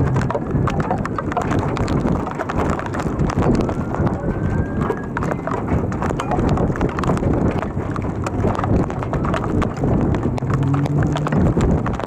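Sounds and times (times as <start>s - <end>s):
hail pelting vehicle: 0.0s - 12.0s
storm rushing: 0.0s - 12.0s.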